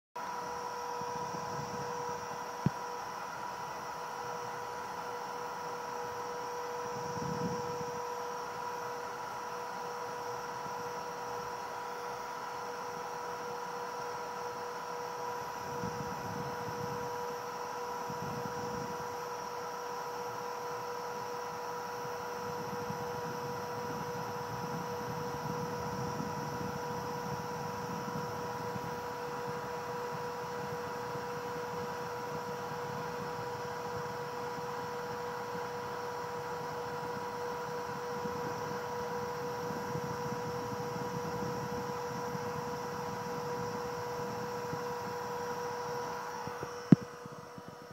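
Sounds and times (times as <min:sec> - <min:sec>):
milling spindle high whine: 0:00.2 - 0:47.9.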